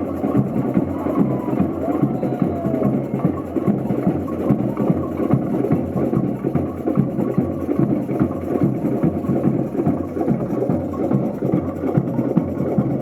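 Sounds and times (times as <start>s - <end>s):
deep drum beats: 0.0s - 13.0s
samba percussion band: 0.0s - 13.0s.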